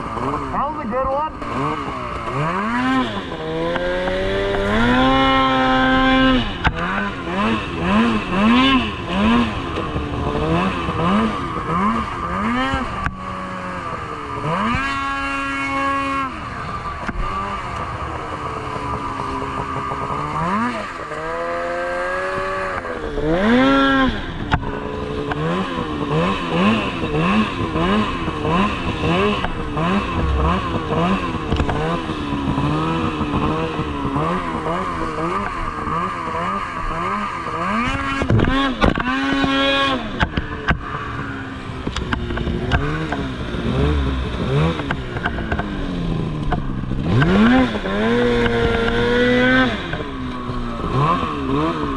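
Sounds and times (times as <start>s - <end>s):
snowmobile engine revving: 0.0s - 51.9s.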